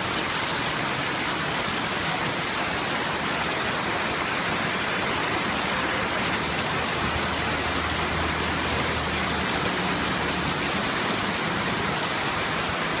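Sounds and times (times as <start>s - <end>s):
heavy rain on standing water: 0.0s - 13.0s.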